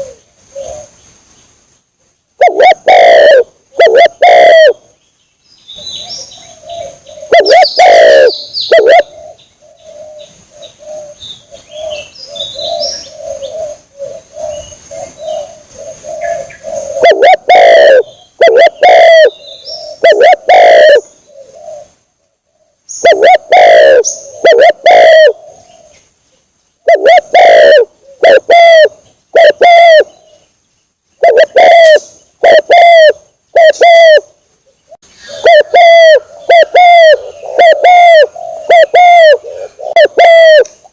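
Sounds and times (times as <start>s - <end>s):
loud dove cooing: 0.0s - 0.9s, 2.4s - 4.8s, 5.9s - 26.0s, 26.8s - 30.4s, 31.2s - 34.3s, 34.9s - 40.8s
soft continuous cooing: 0.0s - 0.9s, 2.4s - 4.9s, 6.2s - 26.1s, 26.8s - 30.5s, 31.2s - 40.9s.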